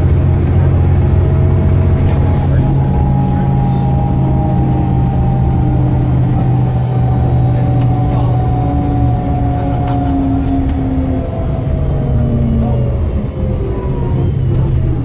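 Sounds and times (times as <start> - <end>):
bus engine drone: 0.0 - 15.0
drivetrain whine: 0.0 - 15.0.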